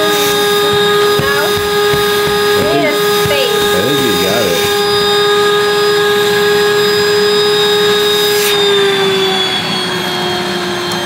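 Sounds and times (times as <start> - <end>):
vacuum cleaner motor whine: 0.0 - 11.0.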